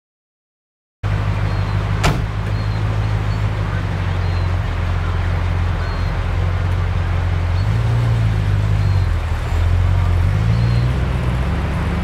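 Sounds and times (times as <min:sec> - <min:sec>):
vehicle engine driving off: 0:01.0 - 0:12.0.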